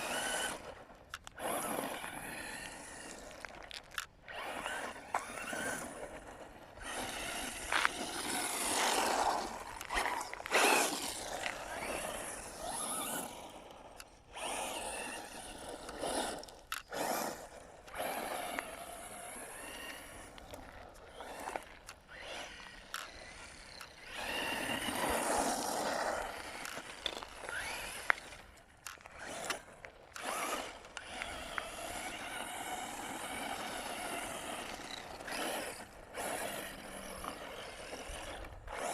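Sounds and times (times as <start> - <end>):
rc car motor whining: 0.0 - 38.9.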